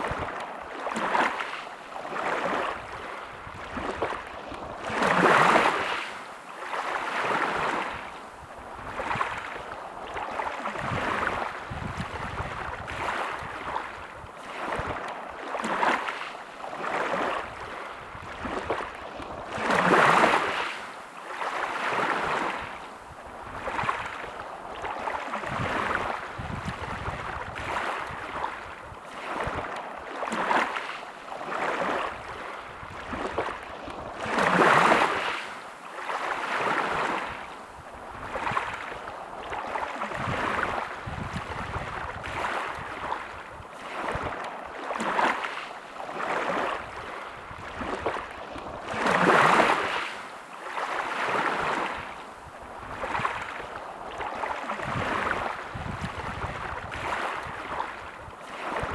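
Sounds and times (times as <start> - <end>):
sea waves washing onto beach: 0.0 - 58.9.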